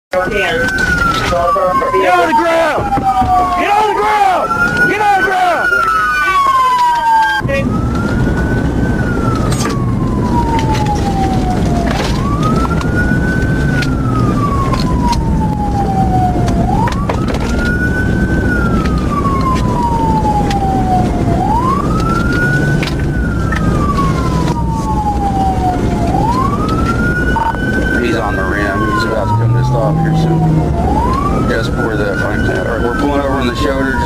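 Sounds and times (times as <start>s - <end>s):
low rumble of vehicle noise: 0.2s - 34.0s
police siren wailing: 0.2s - 34.0s.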